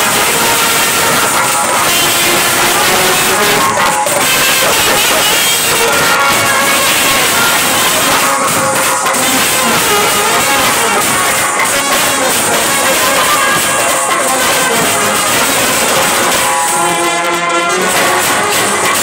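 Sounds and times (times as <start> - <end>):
brass band playing: 0.0 - 19.0
held horn note: 0.0 - 19.0.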